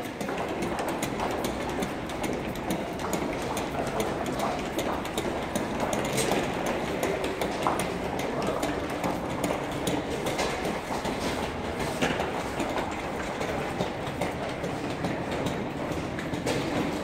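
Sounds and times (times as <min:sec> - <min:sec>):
footsteps on tiled floor: 0:00.0 - 0:17.0.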